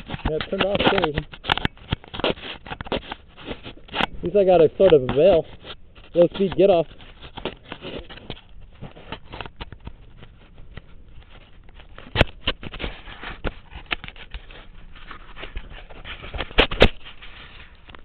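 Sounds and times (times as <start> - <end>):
camera handling noise: 0.0 - 4.2, 6.8 - 18.0.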